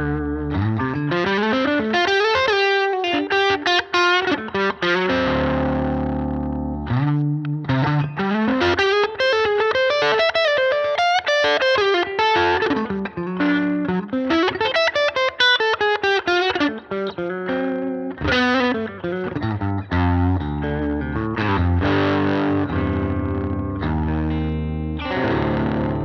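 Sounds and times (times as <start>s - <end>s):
distorted electric guitar: 0.0s - 26.0s.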